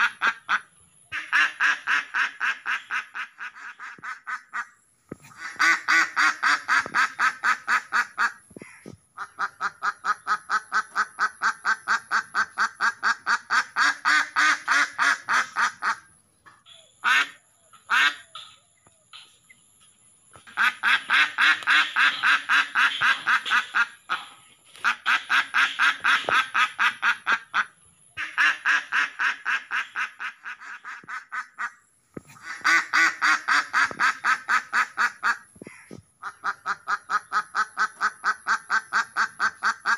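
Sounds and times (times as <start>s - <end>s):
ducks quacking: 0.0s - 16.1s, 17.0s - 18.6s, 20.4s - 39.9s.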